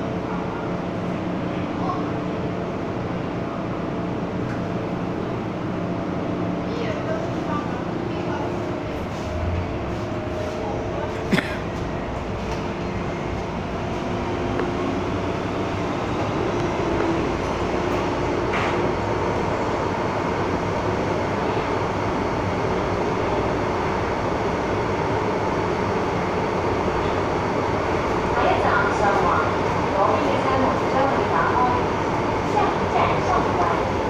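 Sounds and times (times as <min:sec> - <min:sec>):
train wheels rumbling in tunnel: 0:00.0 - 0:34.0
steady tonal hum: 0:04.9 - 0:34.0.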